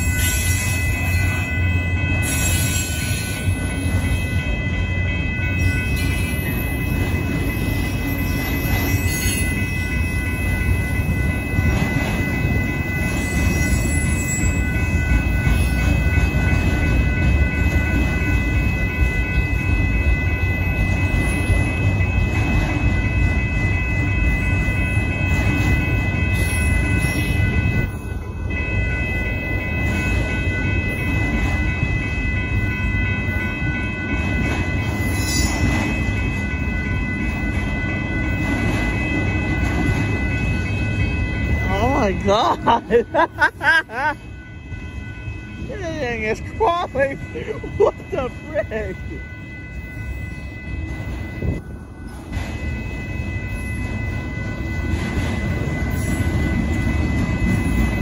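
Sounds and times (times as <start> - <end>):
crossing bell ringing: 0.0 - 58.0
train wheels rumbling on rail: 0.0 - 58.0.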